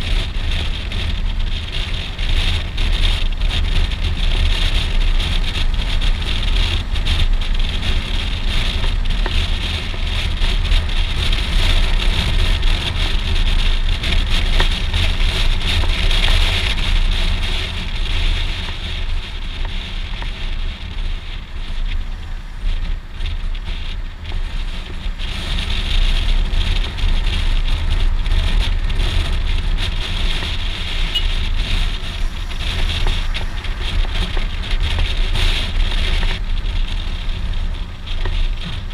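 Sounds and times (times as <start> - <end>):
motorcycle engine running: 0.0 - 38.9
wind buffeting on camera: 0.0 - 38.9.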